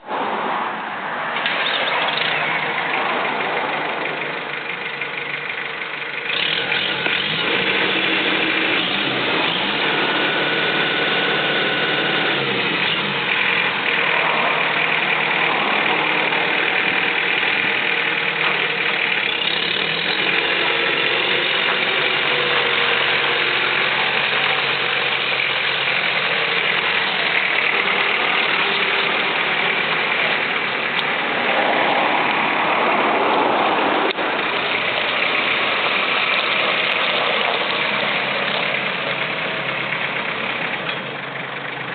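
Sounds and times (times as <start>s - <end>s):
tractor diesel engine running: 1.4s - 41.9s.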